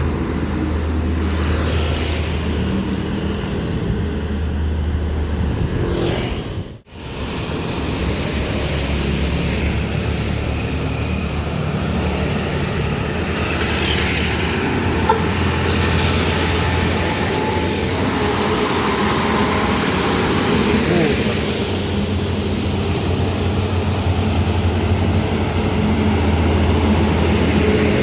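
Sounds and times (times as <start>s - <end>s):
truck engines and traffic rumble: 0.0s - 28.0s.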